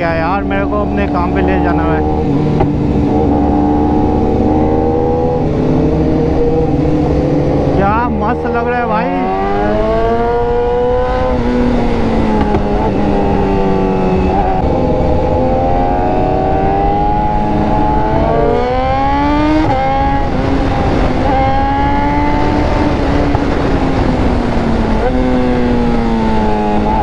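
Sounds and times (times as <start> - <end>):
motorcycle engine revving: 0.0 - 27.0
wind rushing: 0.0 - 27.0.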